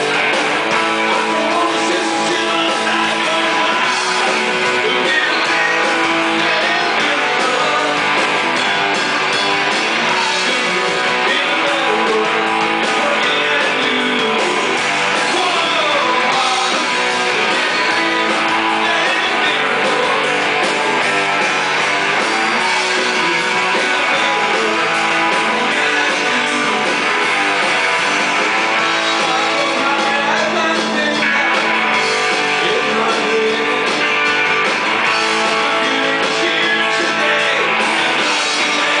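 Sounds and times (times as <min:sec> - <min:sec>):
person singing lead vocal: 0:00.0 - 0:08.4, 0:10.0 - 0:21.1, 0:22.2 - 0:27.6, 0:28.9 - 0:34.3, 0:35.1 - 0:39.0
bass guitar: 0:00.0 - 0:39.0
drum kit: 0:00.0 - 0:39.0
electric guitars: 0:00.0 - 0:39.0.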